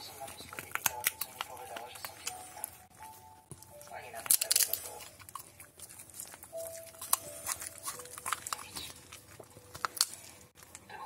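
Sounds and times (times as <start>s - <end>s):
dog chewing and cracking peanuts: 0.0s - 11.0s.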